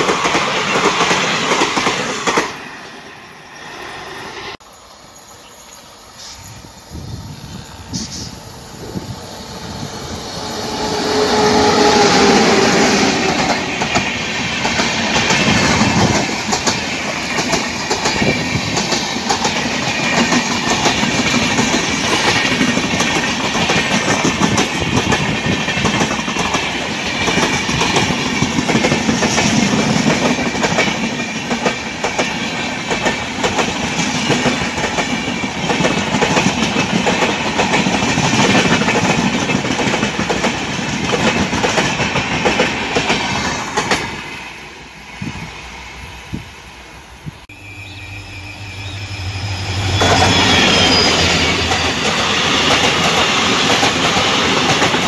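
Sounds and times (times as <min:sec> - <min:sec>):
train rushing past: 0:00.0 - 0:55.0.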